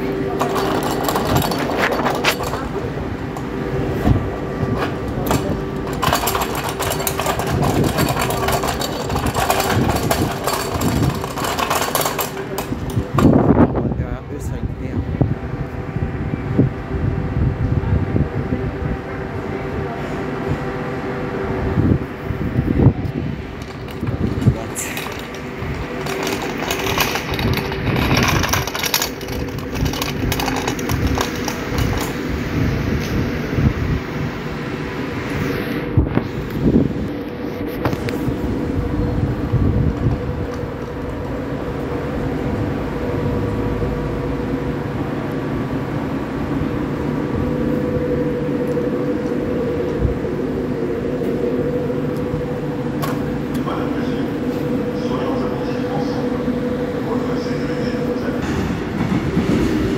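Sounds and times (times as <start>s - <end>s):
train equipment humming: 0.0s - 59.9s.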